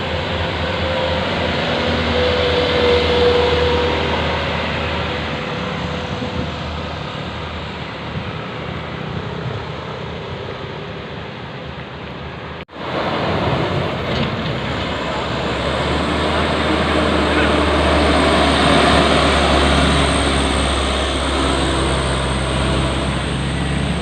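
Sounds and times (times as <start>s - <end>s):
dump truck engines under load: 0.0s - 24.0s
rushing wind-like noise: 0.0s - 24.0s.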